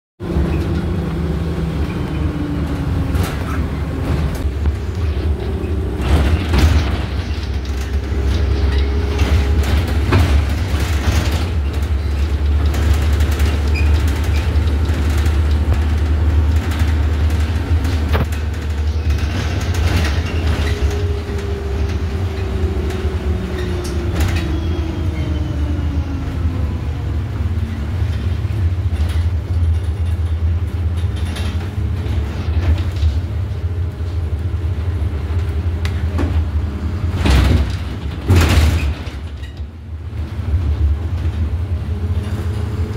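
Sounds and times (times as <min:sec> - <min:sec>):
bus drivetrain and road rumble: 0:00.2 - 0:42.9.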